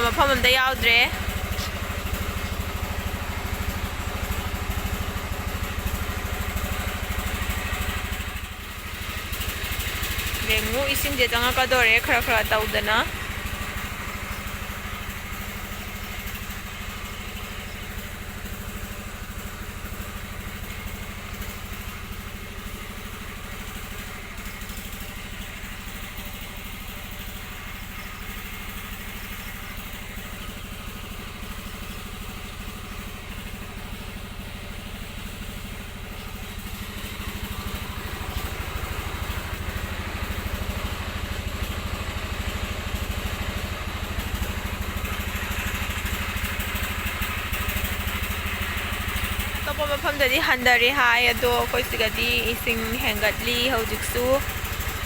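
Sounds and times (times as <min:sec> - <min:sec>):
small engine humming: 0:00.0 - 0:55.0.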